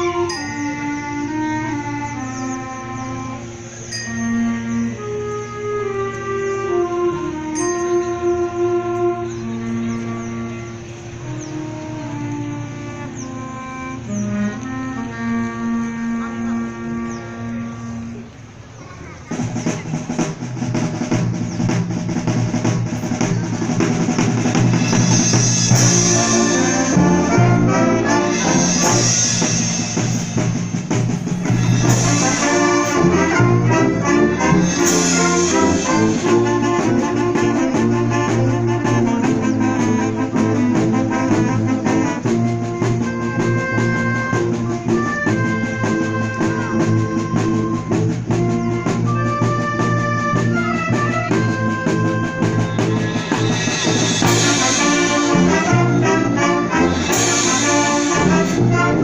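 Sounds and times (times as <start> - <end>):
drum kit and percussion: 0.0 - 5.3, 7.1 - 10.1, 19.0 - 59.0
brass: 0.0 - 59.0
wind band playing loudly: 0.0 - 59.0.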